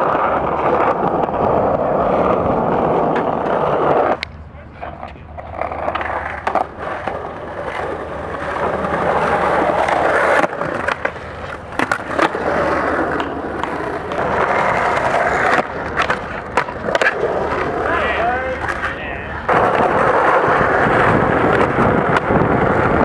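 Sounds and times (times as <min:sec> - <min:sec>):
skateboard clacks: 0:00.0 - 0:23.0
skateboard wheels rolling on stone: 0:00.0 - 0:23.0.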